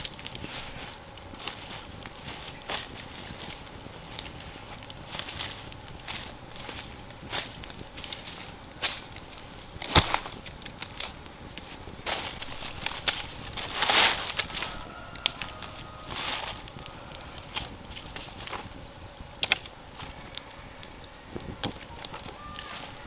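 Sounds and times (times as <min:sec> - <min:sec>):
camping gear clicking and rustling: 0:00.0 - 0:23.0
rain hissing: 0:00.0 - 0:23.0.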